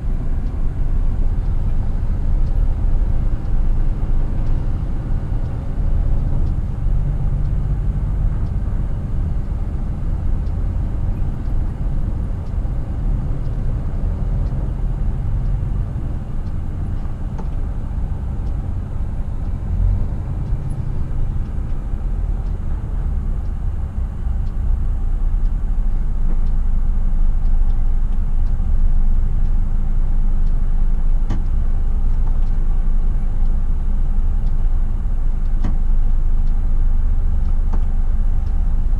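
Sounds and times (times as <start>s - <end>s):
diesel truck engine rumble: 0.0s - 38.9s
road noise: 0.0s - 38.9s.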